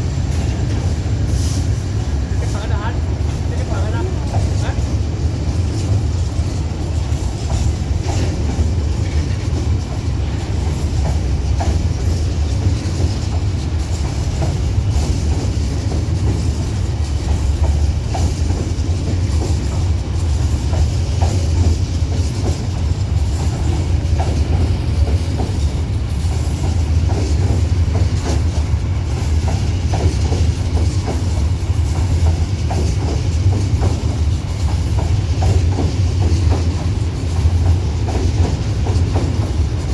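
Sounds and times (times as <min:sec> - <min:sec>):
train wagons rumbling: 0:00.0 - 0:39.9
wheels clacking over rail joints: 0:00.0 - 0:39.9.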